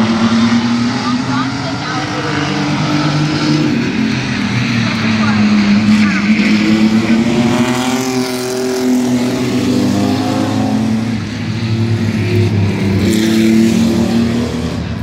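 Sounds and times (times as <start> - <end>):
racing truck engines: 0.0 - 15.0.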